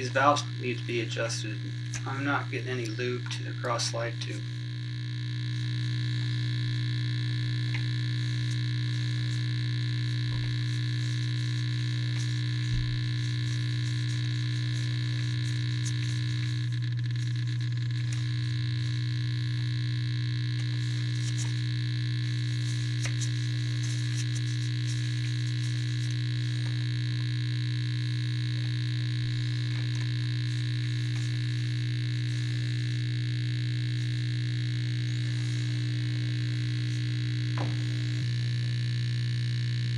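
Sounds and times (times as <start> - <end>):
grinder motor humming and whining: 0.0 - 39.9.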